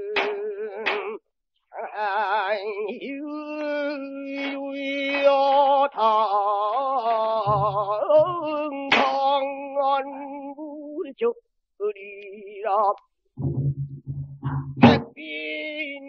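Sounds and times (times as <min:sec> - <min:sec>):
person singing with vibrato: 0:00.0 - 0:13.0, 0:14.5 - 0:16.0.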